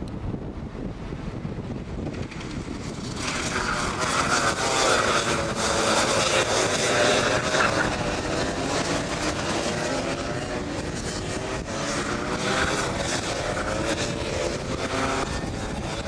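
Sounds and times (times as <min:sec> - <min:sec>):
wind buffeting microphone: 0:00.0 - 0:16.0
kart engines high buzzing whine: 0:01.8 - 0:16.0.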